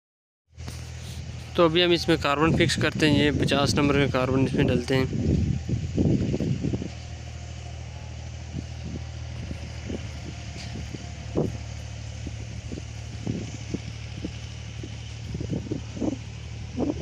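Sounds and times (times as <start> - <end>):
steady low hum: 0.6 - 17.0.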